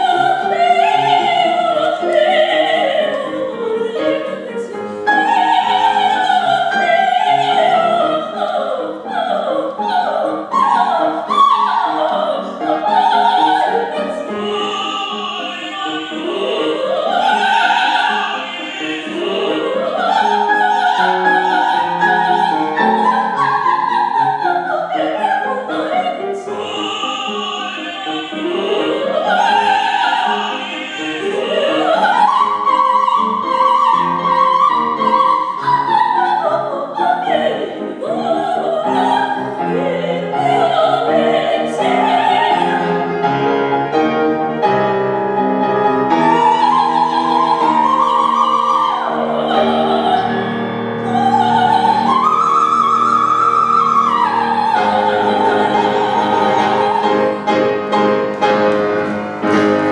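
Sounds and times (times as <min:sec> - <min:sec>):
woman singing opera: 0:00.0 - 0:43.4, 0:46.1 - 0:57.5
piano accompaniment: 0:00.0 - 0:59.9.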